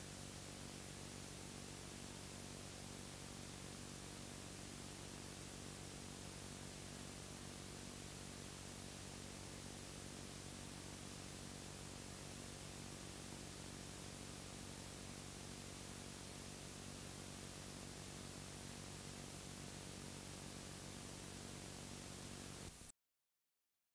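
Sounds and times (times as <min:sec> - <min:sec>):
low electrical hum: 0:00.0 - 0:22.9
steady hiss: 0:00.0 - 0:22.9.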